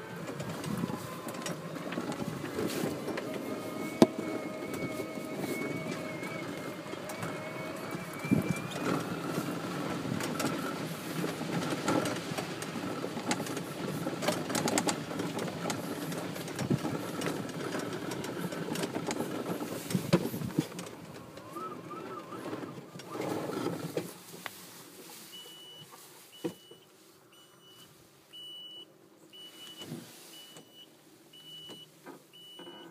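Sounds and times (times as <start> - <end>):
golf cart rumbling and rattling: 0.0 - 26.9.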